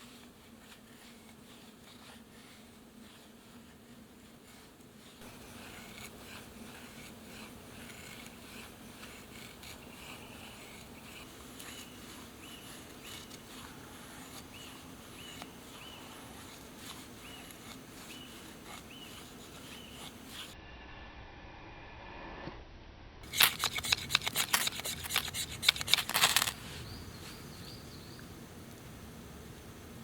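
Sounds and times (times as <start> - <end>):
knife shaving wooden stick: 0.0 - 20.6, 23.2 - 27.4.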